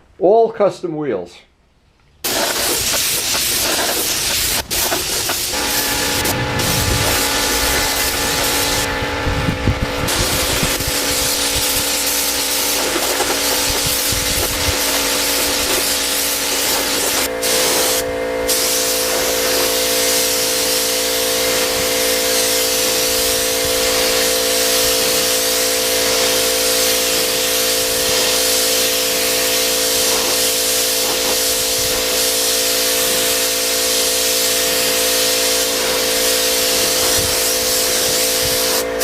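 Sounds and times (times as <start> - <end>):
paint spray gun hissing: 2.2 - 39.0
steady hum: 2.2 - 39.0.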